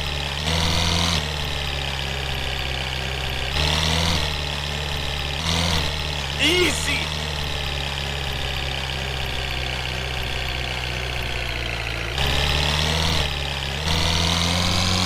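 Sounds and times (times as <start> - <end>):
truck engine revving: 0.3 - 15.0.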